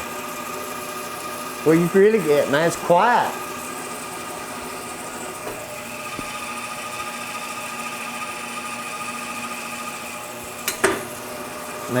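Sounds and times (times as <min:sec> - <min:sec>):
bandsaw motor hum and whine: 0:00.0 - 0:12.0.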